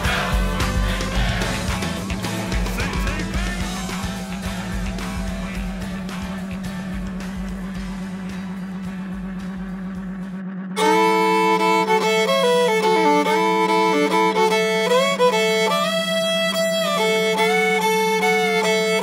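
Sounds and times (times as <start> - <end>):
fiddle playing country tune: 0.0 - 8.2, 10.8 - 19.0
steady low hum: 0.0 - 19.0.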